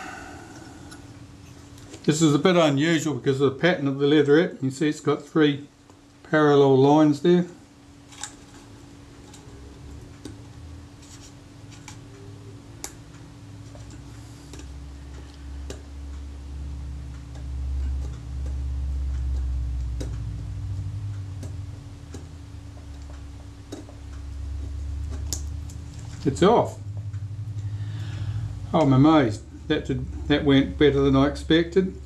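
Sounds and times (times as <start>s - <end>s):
low rumble of handling: 0.0s - 32.0s
steady low hum: 0.0s - 32.0s.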